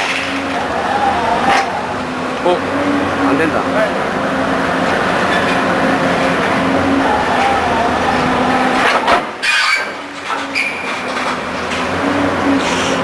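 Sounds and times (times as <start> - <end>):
drilling rig drone: 0.0 - 13.0.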